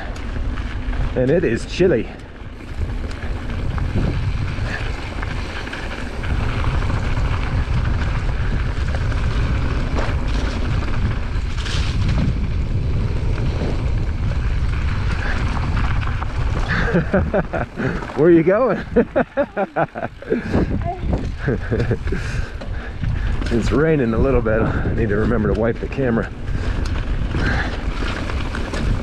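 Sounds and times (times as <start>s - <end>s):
bike knocks and rattles: 0.0s - 18.2s, 20.4s - 29.0s
bike tyre noise on dirt: 0.0s - 29.0s
wind buffeting microphone: 0.0s - 29.0s.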